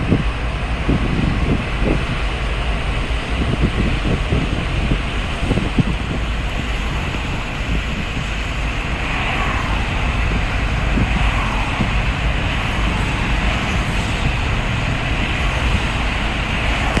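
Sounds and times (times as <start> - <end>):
deep rumble: 0.0 - 17.0
steady rain falling: 0.0 - 17.0.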